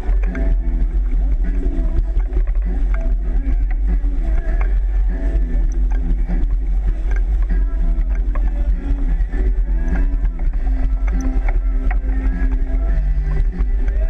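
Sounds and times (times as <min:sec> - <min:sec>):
water rushing along hull: 0:00.0 - 0:14.0
wind rumble on microphone: 0:00.0 - 0:14.0.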